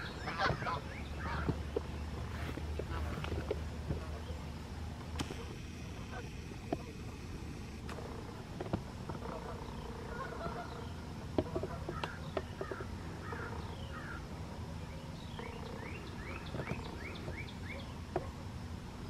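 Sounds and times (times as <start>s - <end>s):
birds calling: 0.0s - 19.0s
low engine hum: 0.0s - 19.0s.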